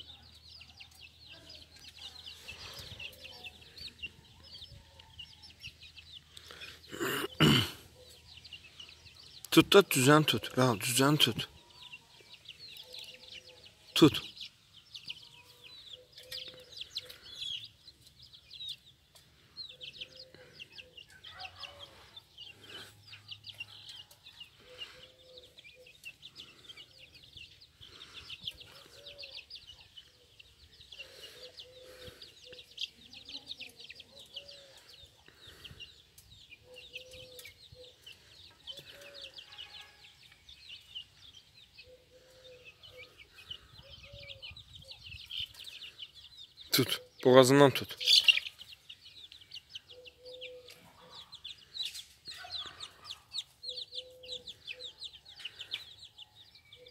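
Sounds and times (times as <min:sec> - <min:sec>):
chicks peeping: 0:00.0 - 0:56.9.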